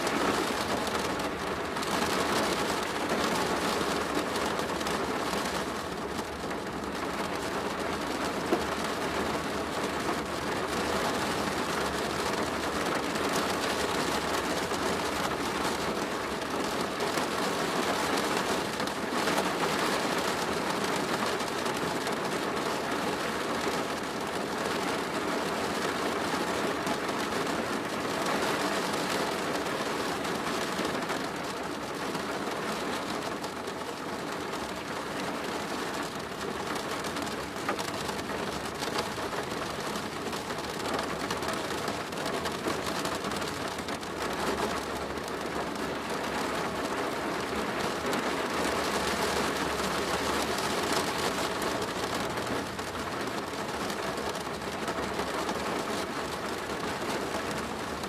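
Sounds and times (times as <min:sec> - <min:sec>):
rain on a plastic roof: 0:00.0 - 0:58.0.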